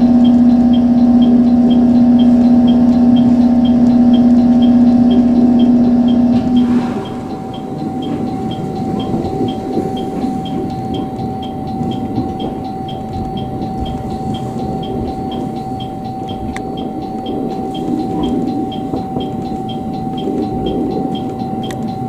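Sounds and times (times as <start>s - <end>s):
electric train rumble: 0.0s - 22.0s
light regular ticking: 0.0s - 22.0s
thin whine: 0.0s - 22.0s.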